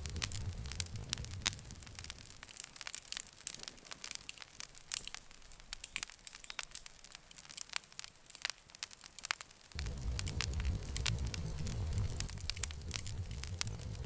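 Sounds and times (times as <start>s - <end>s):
faint hiss: 0.0s - 14.0s
wood fire crackling: 0.0s - 14.0s.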